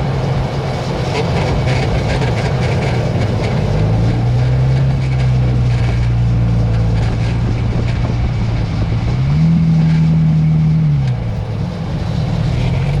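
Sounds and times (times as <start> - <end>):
vehicle driving hum: 0.0 - 13.0.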